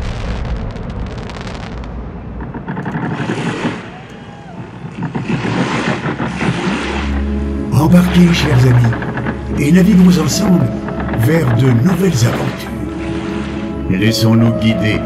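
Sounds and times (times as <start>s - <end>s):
fireworks crackling and rumbling: 0.0s - 13.6s.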